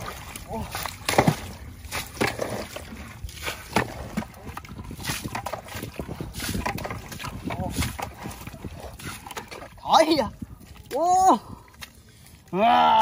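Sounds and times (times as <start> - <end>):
fish splashing in shallow water: 0.0 - 13.0.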